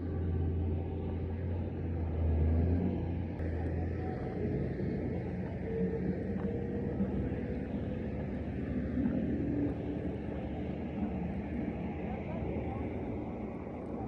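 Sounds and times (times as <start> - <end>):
faint engine tones: 0.0 - 14.0
low rumble of vehicle engines: 0.0 - 14.0.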